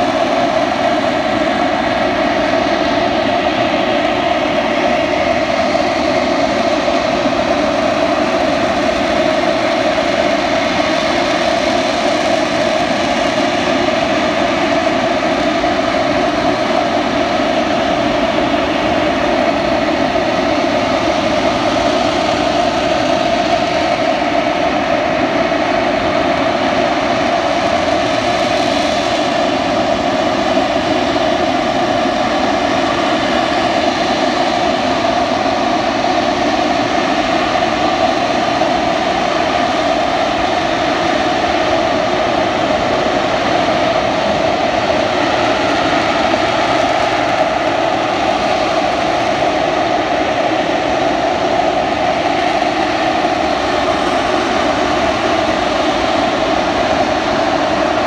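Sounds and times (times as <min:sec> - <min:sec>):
high steady jet whine: 0:00.0 - 0:58.0
jet engine roaring: 0:00.0 - 0:58.0.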